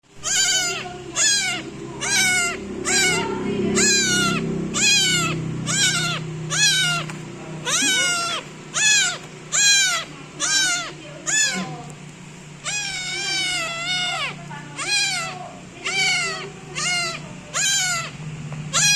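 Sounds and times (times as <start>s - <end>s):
low steady hum: 0.0s - 18.9s
kitten meowing loudly: 0.2s - 11.8s, 12.6s - 18.9s.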